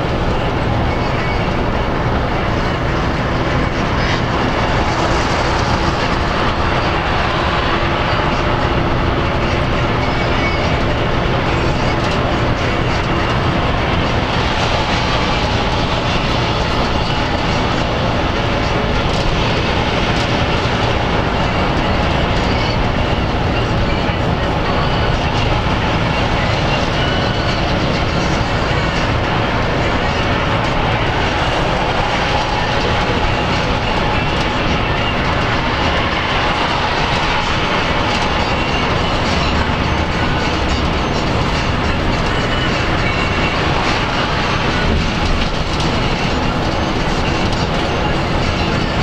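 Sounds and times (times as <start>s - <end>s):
bus interior road drone: 0.0s - 49.0s.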